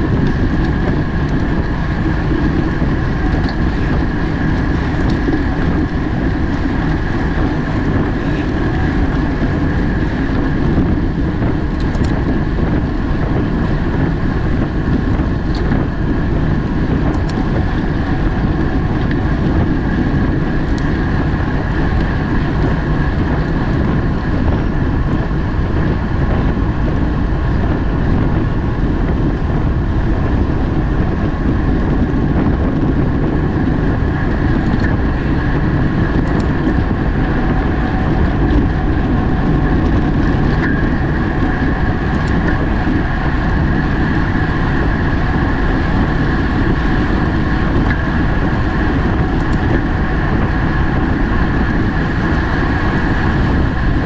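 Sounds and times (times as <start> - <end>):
road rumble: 0.0 - 54.0
wind buffeting microphone: 0.0 - 54.0.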